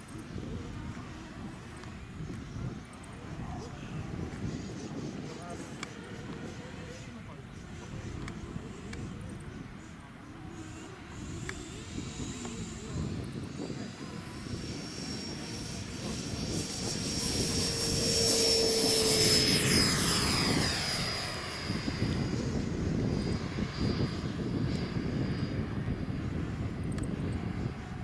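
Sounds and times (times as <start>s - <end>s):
model jet whine flying past: 0.0s - 28.0s.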